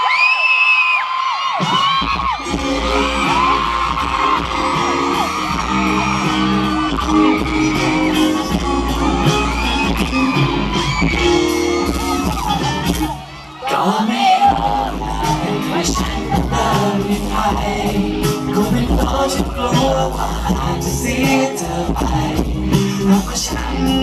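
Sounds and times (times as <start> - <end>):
audience screaming and cheering: 0.0 - 24.0
live band playing pop song: 1.6 - 24.0.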